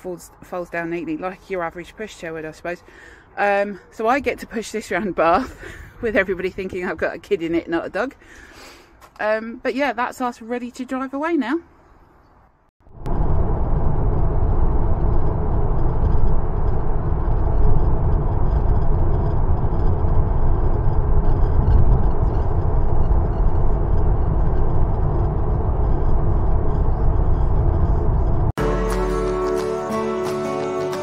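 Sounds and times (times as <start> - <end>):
road and engine rumble: 0.0 - 11.6, 12.3 - 30.0.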